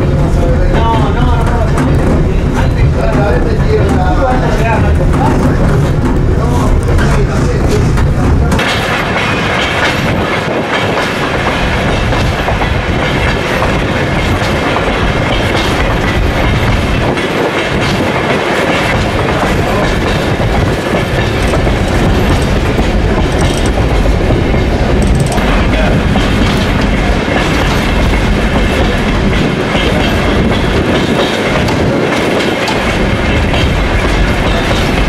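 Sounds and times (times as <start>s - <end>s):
clickety-clack of wheels on rails: 0.0s - 35.0s
train rumbling on track: 0.0s - 35.0s.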